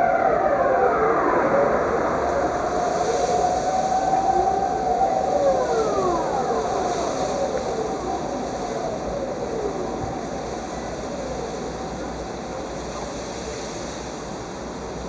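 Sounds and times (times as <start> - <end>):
warning sirens wailing: 0.0 - 15.0.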